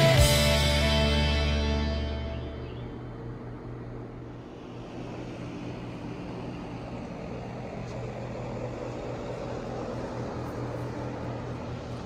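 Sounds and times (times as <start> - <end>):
blower fan humming: 0.0 - 12.0.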